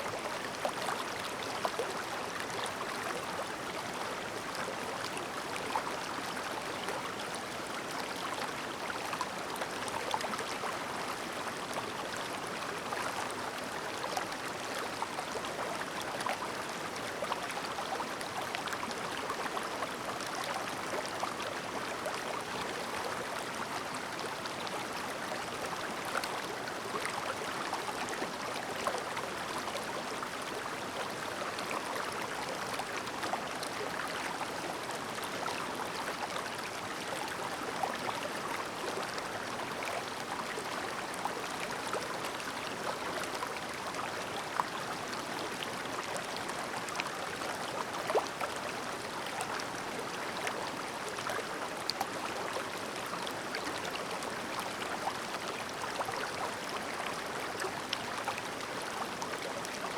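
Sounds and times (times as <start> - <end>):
stream babbling: 0.1 - 59.9.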